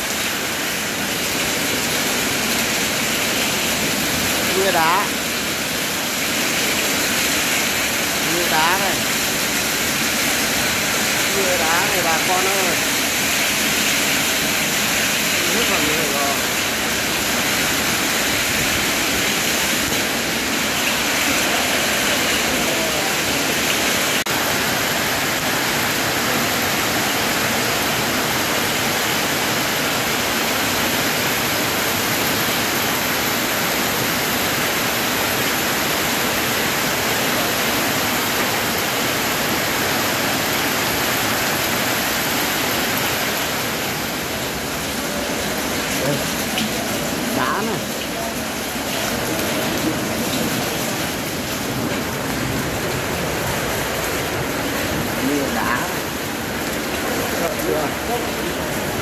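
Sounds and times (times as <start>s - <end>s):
heavy rain and hail pelting: 0.0s - 59.0s.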